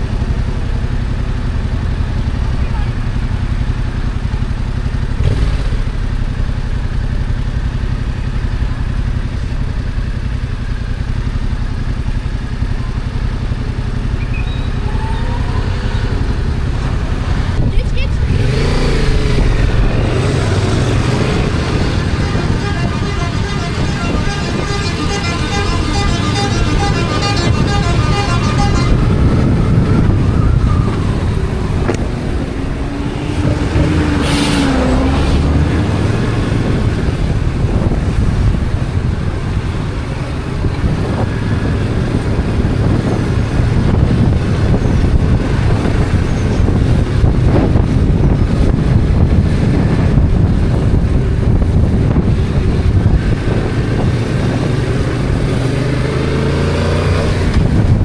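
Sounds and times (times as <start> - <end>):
city traffic: 0.0 - 58.0
motorcycle engine and exhaust: 0.0 - 58.0.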